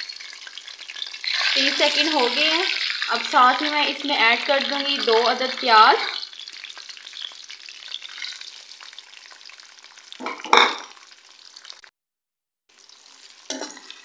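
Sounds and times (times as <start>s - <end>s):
onions sizzling in oil: 0.0s - 11.9s, 12.7s - 14.0s
spices crackling in hot oil: 0.0s - 11.9s, 12.7s - 14.0s.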